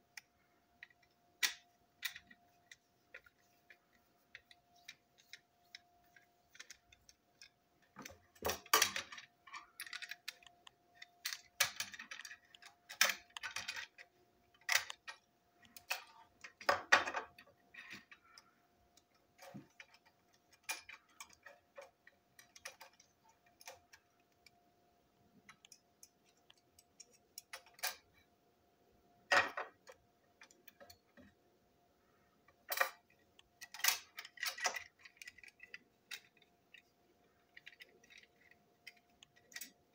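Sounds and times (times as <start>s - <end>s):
small plastic clicks and rattles: 0.0s - 24.7s, 25.3s - 28.3s, 29.3s - 31.4s, 32.0s - 39.9s.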